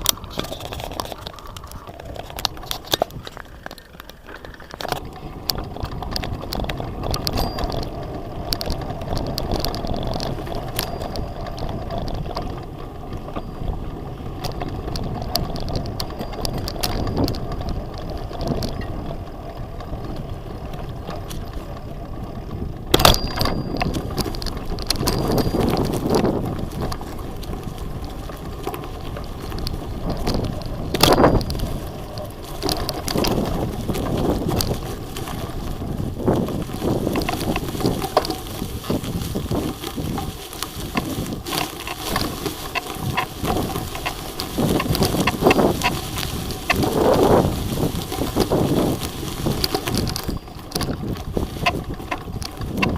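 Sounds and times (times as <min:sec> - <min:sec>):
bicycle frame rattling: 0:00.0 - 0:52.9
bicycle tyres rumbling: 0:00.0 - 0:52.9.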